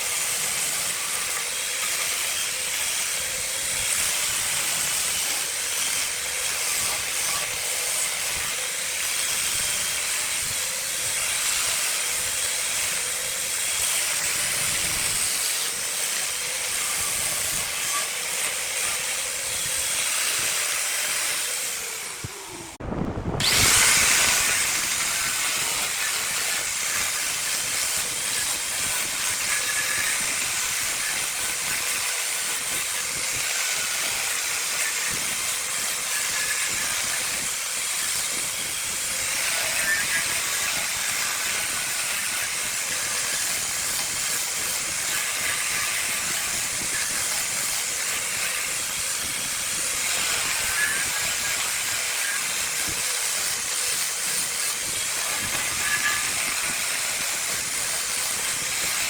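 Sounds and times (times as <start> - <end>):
wood lathe hissing: 0.0 - 59.0.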